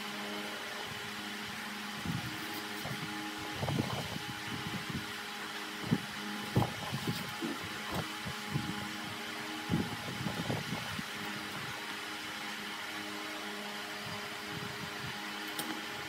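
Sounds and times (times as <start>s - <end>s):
machine motor humming: 0.0s - 16.0s.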